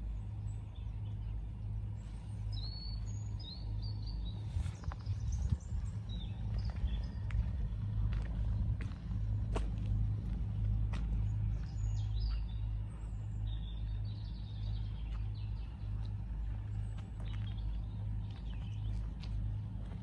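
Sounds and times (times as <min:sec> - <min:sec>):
constant low rumble: 0:00.0 - 0:20.0
small birds chirping: 0:00.0 - 0:20.0.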